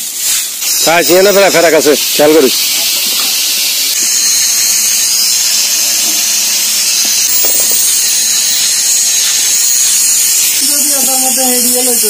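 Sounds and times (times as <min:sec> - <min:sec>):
water jetting from hose: 0:00.0 - 0:12.0.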